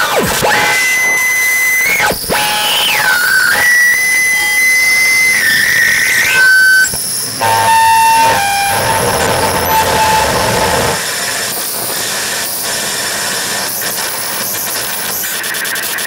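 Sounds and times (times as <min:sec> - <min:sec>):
harsh electronic noise: 0:00.0 - 0:16.0
whistling electronic tones: 0:00.0 - 0:16.0
low buzzing tone: 0:00.9 - 0:14.6.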